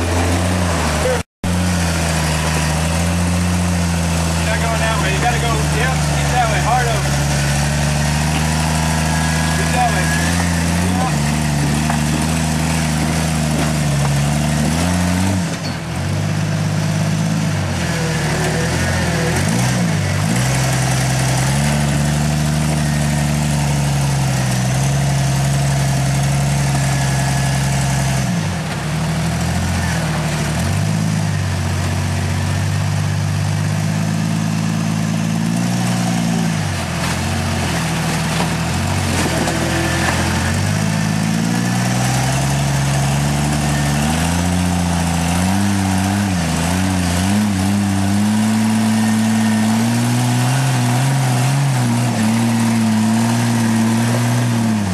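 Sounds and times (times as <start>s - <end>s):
off-road vehicle engine revving: 0.0s - 54.9s.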